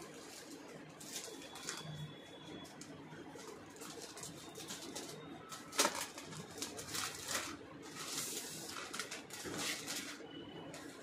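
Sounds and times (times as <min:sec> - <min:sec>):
packaging rustling and crinkling: 0:00.1 - 0:11.0.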